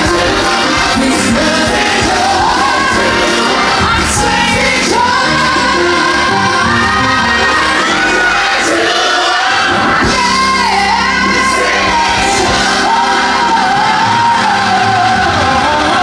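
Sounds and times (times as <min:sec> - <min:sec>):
steady musical accompaniment: 0:00.0 - 0:16.0.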